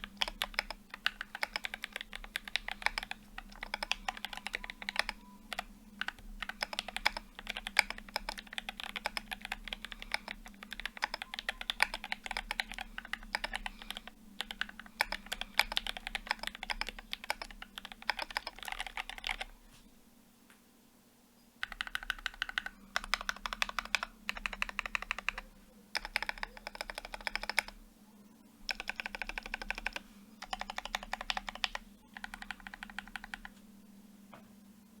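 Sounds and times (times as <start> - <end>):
mechanical keyboard typing: 0.0 - 19.5, 21.6 - 27.8, 28.6 - 33.5.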